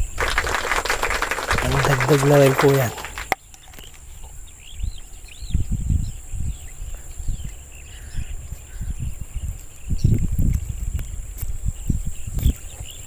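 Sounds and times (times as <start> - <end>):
high insect drone: 0.0 - 13.0
bird chirps: 1.0 - 13.0.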